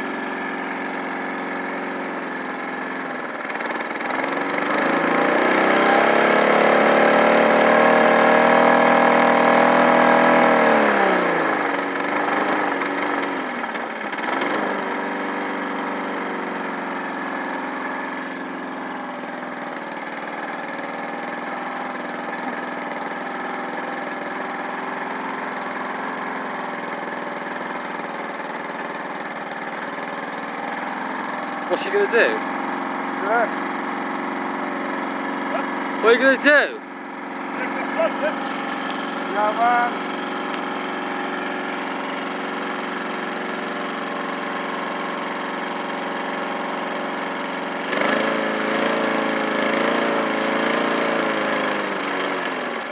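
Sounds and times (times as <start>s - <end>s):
lawn mower engine revving: 0.0s - 52.9s.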